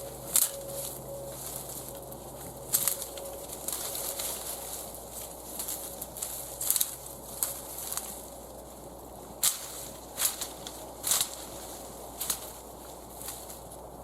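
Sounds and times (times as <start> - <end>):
footsteps crunching on frozen ground: 0.0 - 13.8.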